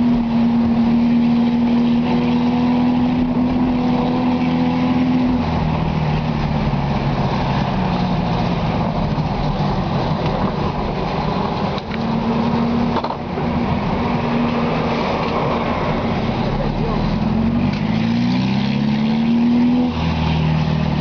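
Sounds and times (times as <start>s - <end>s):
car engine driving slowly: 0.0s - 21.0s.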